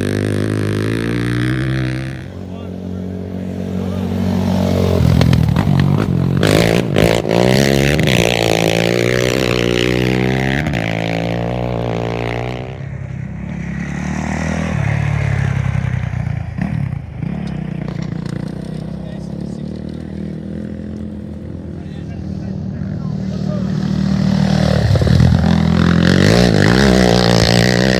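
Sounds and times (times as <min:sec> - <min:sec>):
racing engine revving: 0:00.0 - 0:27.9.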